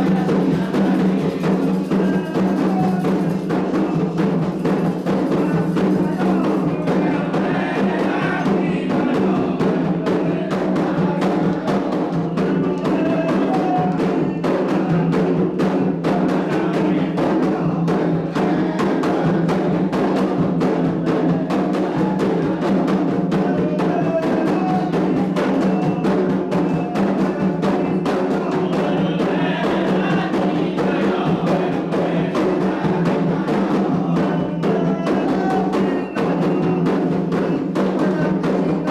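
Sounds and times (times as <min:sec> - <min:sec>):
hand drums playing fast: 0:00.0 - 0:38.9.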